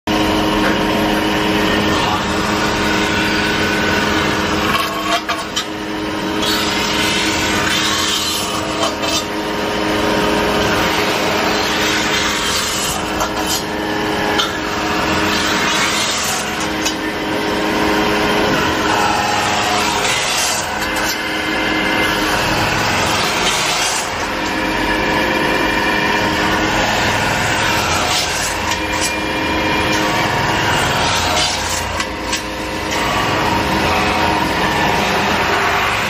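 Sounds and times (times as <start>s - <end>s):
lathe motor hum: 0.1s - 36.0s
roller rubbing and scraping metal: 0.6s - 36.0s.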